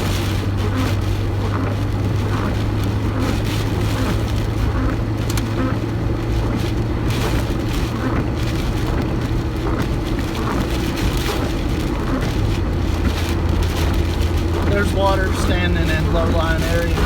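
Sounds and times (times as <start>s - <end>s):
car engine hum: 0.0s - 17.0s
tyre rumble: 0.0s - 17.0s.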